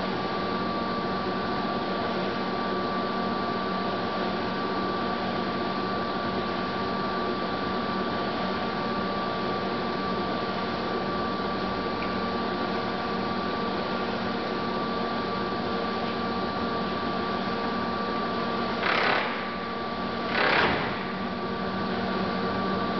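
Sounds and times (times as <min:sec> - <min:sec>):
lathe humming with high whine: 0:00.0 - 0:22.9.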